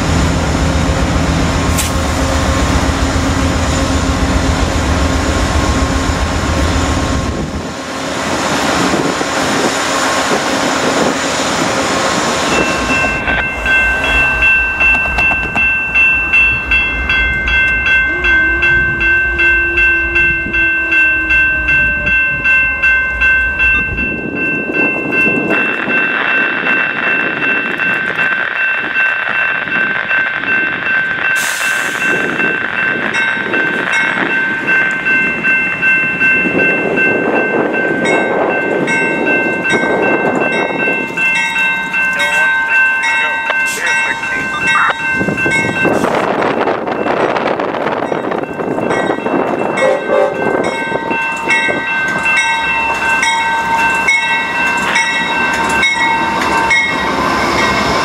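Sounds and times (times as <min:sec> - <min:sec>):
diesel locomotive rumbling: 0:00.0 - 0:58.0
railroad crossing bell ringing: 0:00.0 - 0:58.0.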